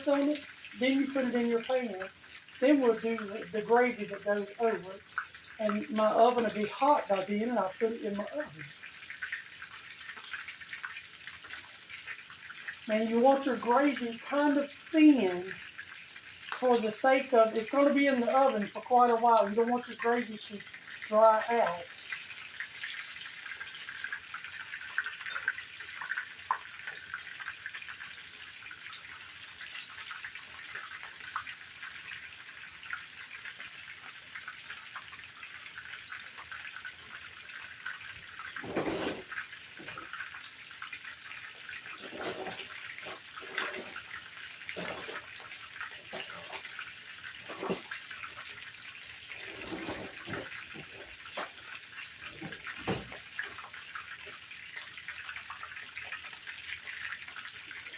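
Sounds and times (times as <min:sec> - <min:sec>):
chicken sizzling in oil: 0:00.0 - 0:57.9.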